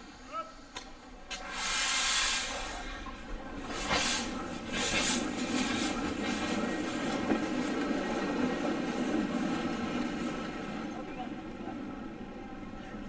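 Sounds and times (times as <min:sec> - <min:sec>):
steam locomotive hissing steam: 0:00.0 - 0:12.7.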